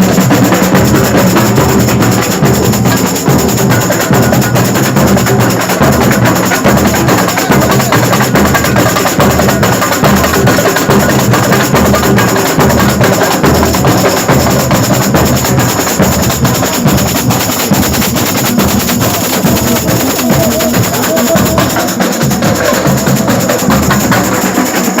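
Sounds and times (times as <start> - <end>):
loud drum rhythms: 0.0 - 25.0.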